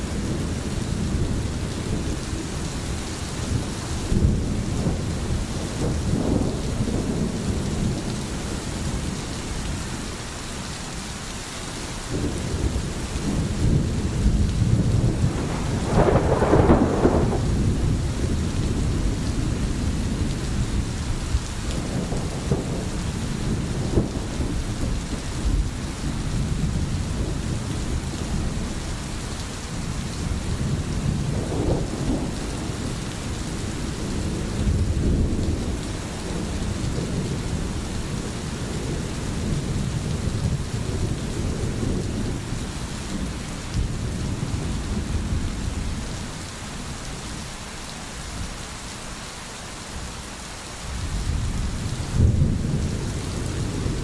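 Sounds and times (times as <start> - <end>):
low thunder rumbling: 0.0 - 9.9, 12.1 - 46.9, 50.9 - 54.0
steady rain hissing: 0.0 - 54.0.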